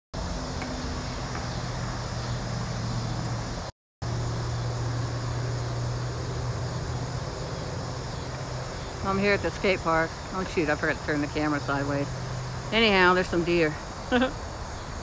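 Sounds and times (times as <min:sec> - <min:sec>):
constant low hum: 0:00.2 - 0:15.0.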